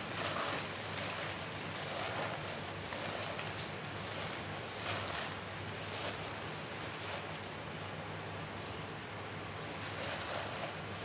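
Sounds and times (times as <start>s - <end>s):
salad leaves rustling in plastic bowl: 0.0s - 8.8s, 9.7s - 11.0s.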